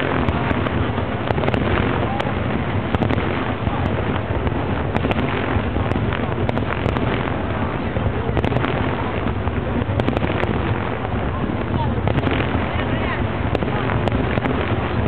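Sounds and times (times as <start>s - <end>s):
distant fireworks bursting: 0.0s - 15.0s
wind noise on microphone: 0.0s - 15.0s.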